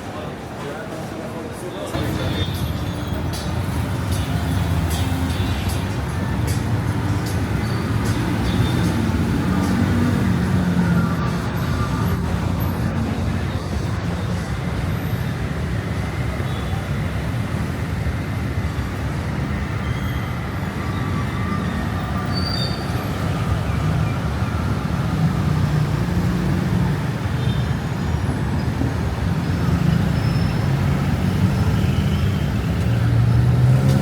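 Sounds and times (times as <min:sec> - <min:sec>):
low traffic rumble: 0:00.0 - 0:34.0
tyres on road: 0:00.0 - 0:34.0
car engines running: 0:01.9 - 0:34.0.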